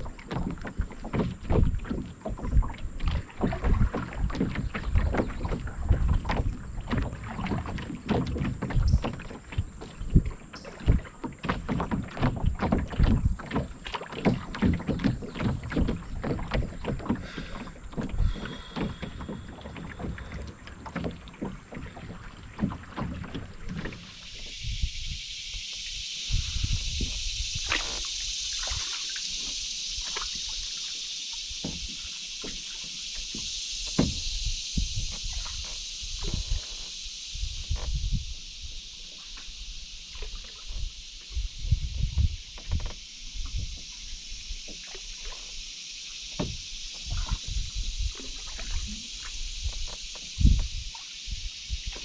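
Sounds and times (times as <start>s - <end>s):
water splashing against canoe: 0.0s - 52.0s.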